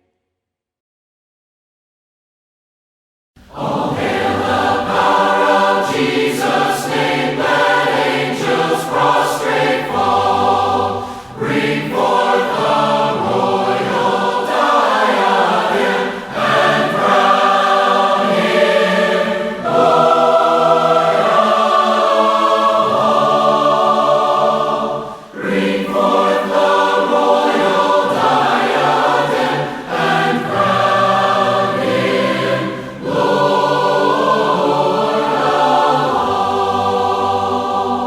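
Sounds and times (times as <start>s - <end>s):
choir singing a worship song: 3.5s - 38.0s.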